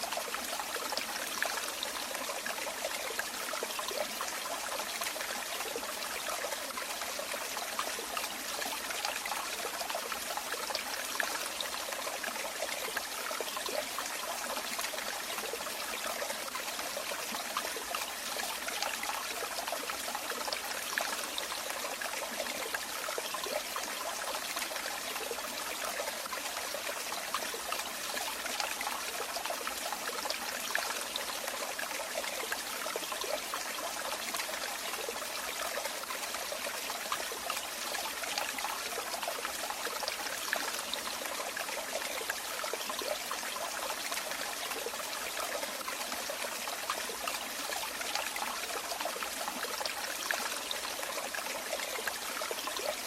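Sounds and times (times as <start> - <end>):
water trickling and splashing: 0.0 - 53.0.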